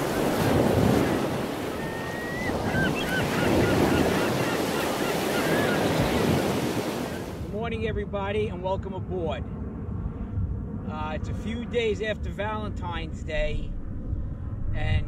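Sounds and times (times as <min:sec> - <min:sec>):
waves and wind rushing: 0:00.0 - 0:15.0.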